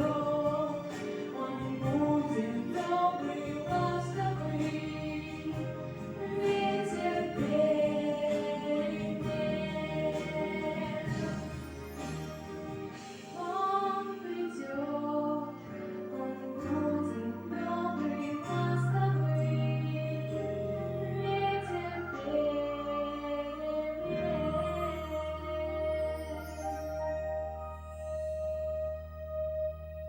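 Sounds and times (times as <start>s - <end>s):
woman singing: 0.0s - 11.8s, 13.2s - 26.7s
choir-like backing vocals: 0.0s - 27.4s.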